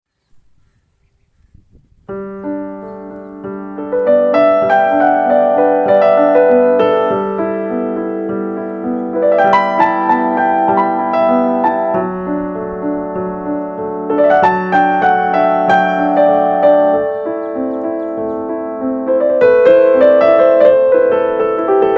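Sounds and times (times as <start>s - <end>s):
piano melody: 2.0s - 21.9s.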